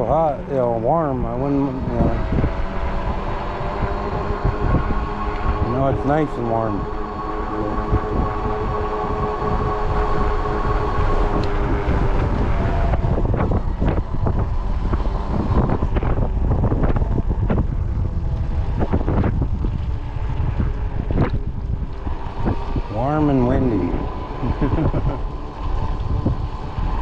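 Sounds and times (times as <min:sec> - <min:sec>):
electric motor whine: 0:00.0 - 0:27.0
wind buffeting microphone: 0:00.0 - 0:27.0.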